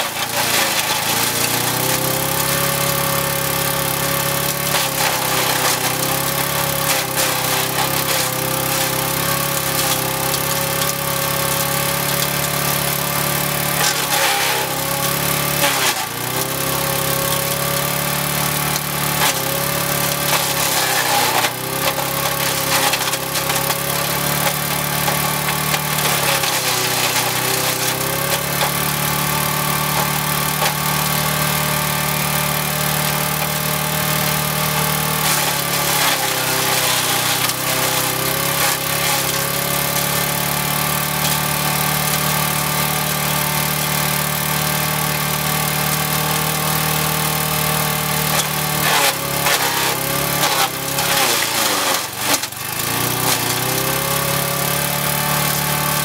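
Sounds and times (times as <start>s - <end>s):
small engine running flat out: 0.0s - 56.0s
wood cracking as it is cut: 0.0s - 56.0s.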